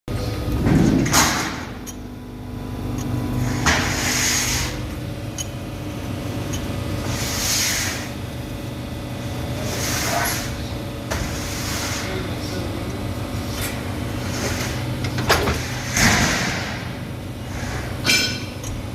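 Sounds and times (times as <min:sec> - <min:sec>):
machine humming: 0:00.1 - 0:18.9.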